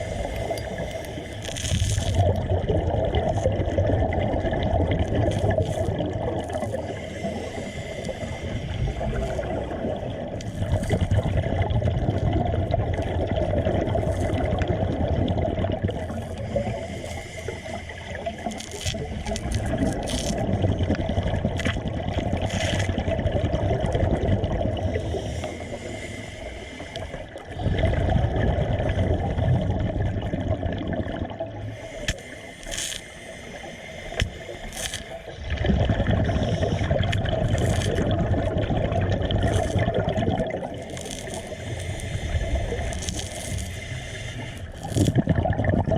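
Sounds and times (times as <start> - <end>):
water sloshing and gurgling: 0.0 - 45.9.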